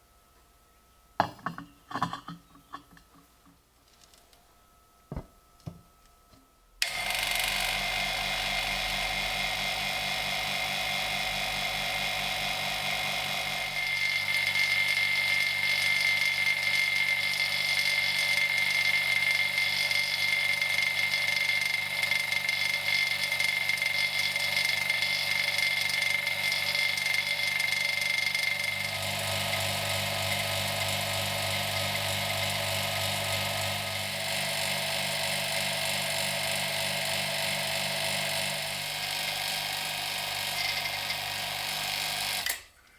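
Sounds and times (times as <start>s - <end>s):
small electric motor whining: 6.8s - 42.6s.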